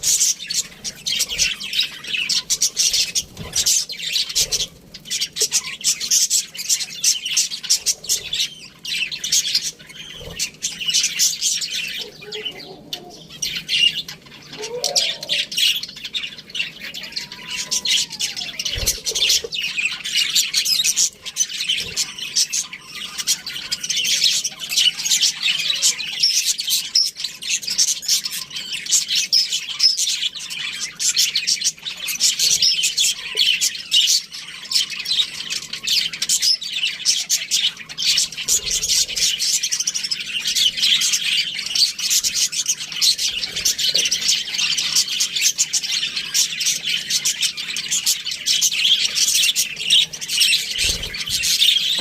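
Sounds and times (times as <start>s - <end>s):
budgerigars chirping and warbling: 0.0s - 52.0s.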